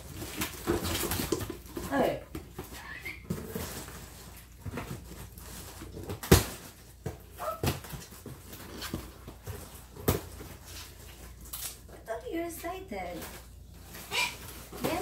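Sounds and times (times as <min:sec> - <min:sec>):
cardboard rustling: 0:00.0 - 0:15.0.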